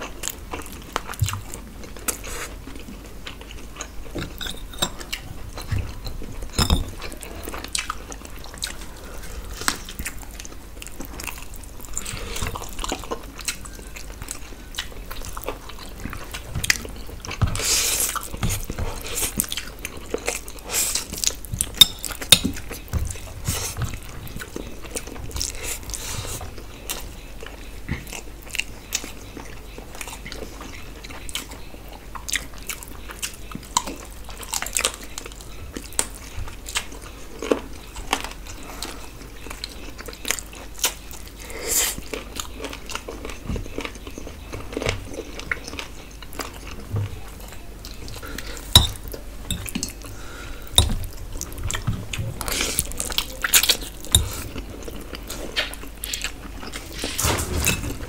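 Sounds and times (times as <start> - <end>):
people chewing and biting: 0.0 - 58.0.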